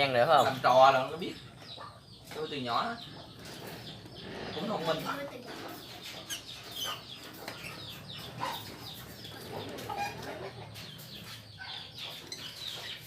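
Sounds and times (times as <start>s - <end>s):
lovebirds chirping and squawking: 0.0s - 13.0s.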